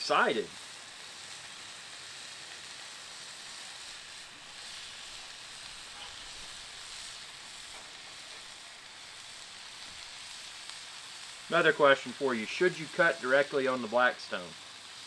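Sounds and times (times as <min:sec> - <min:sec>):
steak sizzling on a griddle: 0:00.0 - 0:15.0.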